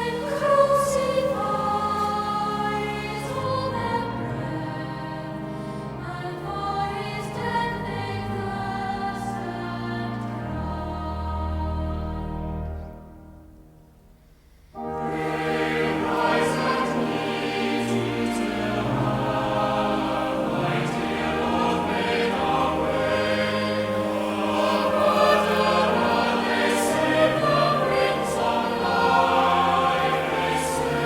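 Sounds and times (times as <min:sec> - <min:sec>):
choir singing sustained chords: 0:00.0 - 0:31.0.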